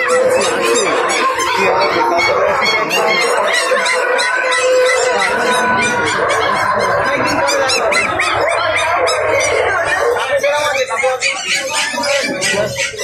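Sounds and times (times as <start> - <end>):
many birds calling: 0.0 - 13.0.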